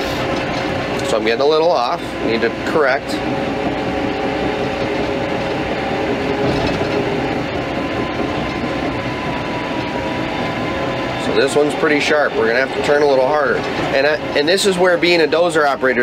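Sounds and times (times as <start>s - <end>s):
dozer diesel engine with whine: 0.0s - 16.0s
steel tracks clattering: 0.0s - 16.0s.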